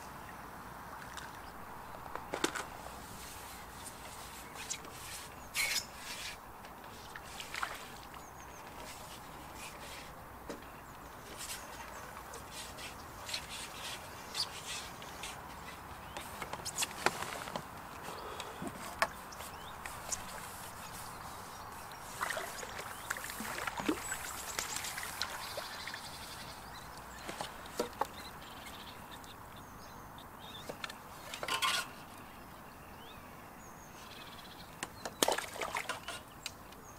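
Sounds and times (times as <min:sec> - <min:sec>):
steady low hiss: 0:00.0 - 0:36.9.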